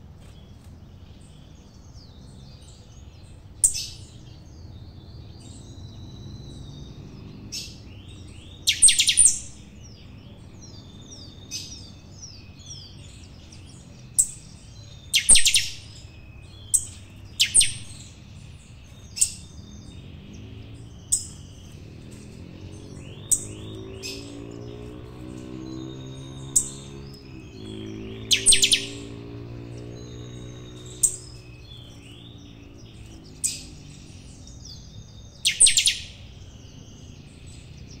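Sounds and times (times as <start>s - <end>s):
soft bird twittering: 0.0s - 38.0s
finch singing high chirps: 0.2s - 38.0s.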